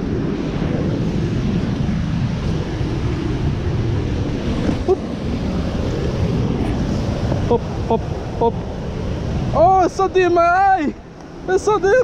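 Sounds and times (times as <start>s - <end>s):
wind on microphone: 0.0s - 12.0s
river rapids roaring: 1.6s - 12.0s.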